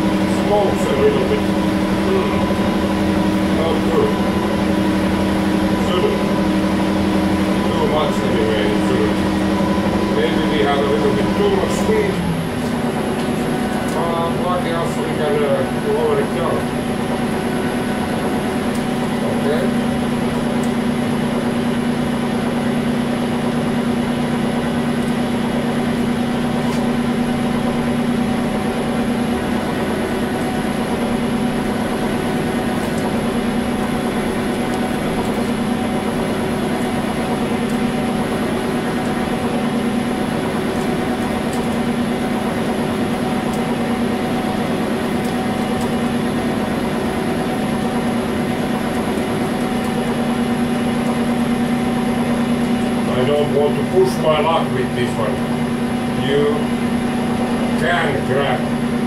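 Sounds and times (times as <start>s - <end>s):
metal lathe motor humming: 0.0s - 59.0s.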